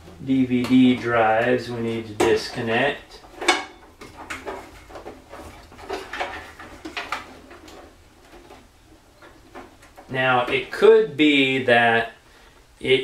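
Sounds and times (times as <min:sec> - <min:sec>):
connectors clicking and knocking: 0:00.0 - 0:11.0
cables rattling: 0:00.0 - 0:11.9.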